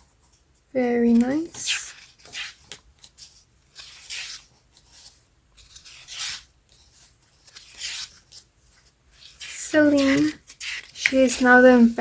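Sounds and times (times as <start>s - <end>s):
book pages turning: 0.0s - 12.0s.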